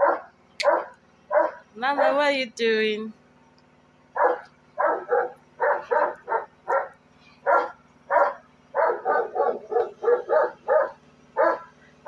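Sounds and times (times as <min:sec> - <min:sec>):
dog barking: 0:00.0 - 0:02.2, 0:04.2 - 0:11.7.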